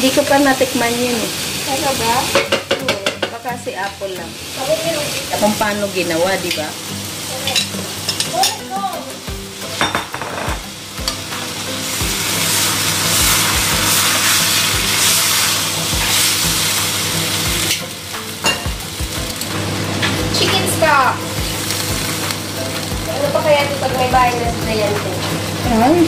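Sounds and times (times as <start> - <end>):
noodles sizzling in a pan: 0.0 - 26.0.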